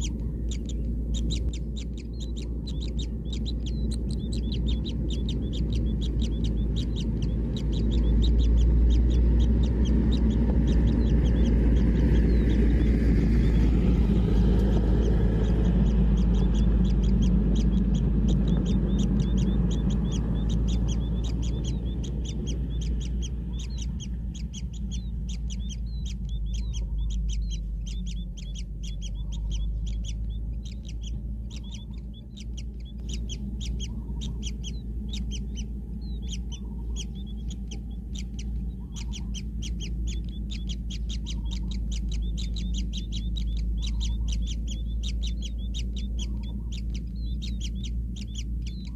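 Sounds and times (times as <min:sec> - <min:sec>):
chicks chirping: 0:00.0 - 0:48.9
low rumble: 0:00.0 - 0:48.9.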